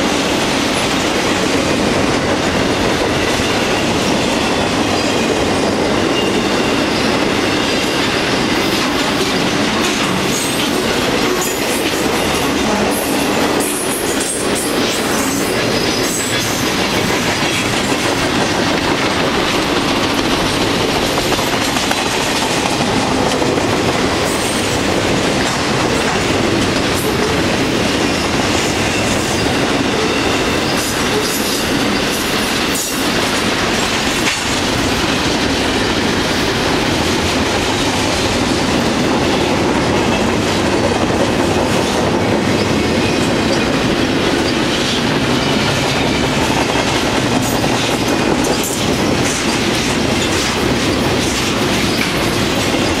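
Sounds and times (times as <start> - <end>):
steel wheels rumbling on rail: 0.0 - 53.0
wheels clacking over rail joints: 0.0 - 53.0.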